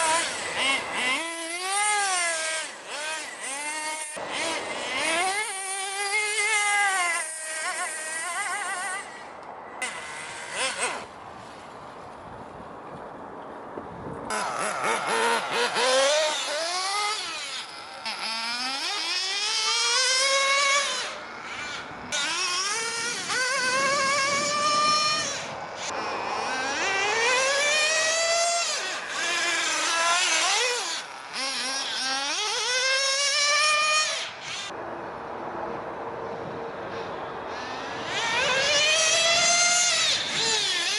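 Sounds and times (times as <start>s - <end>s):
rc car engine whining: 0.0s - 11.6s, 14.3s - 34.8s, 36.9s - 40.9s.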